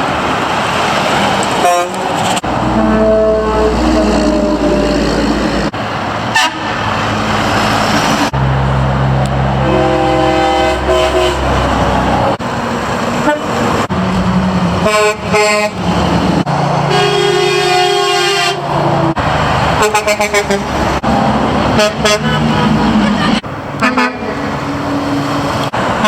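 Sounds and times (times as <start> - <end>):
diesel truck engines rumbling: 0.0 - 26.0
road noise: 0.0 - 26.0
truck horns honking: 1.6 - 26.0.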